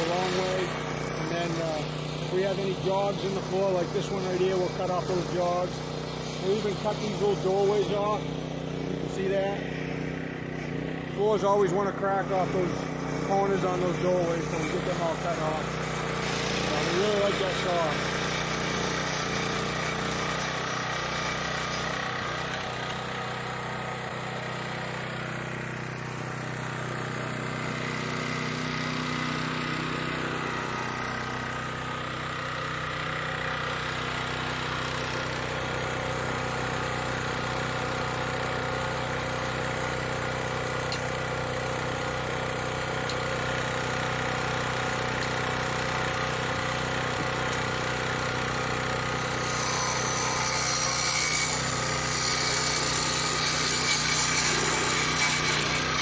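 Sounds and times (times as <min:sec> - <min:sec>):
concrete saw cutting: 0:00.0 - 0:56.0.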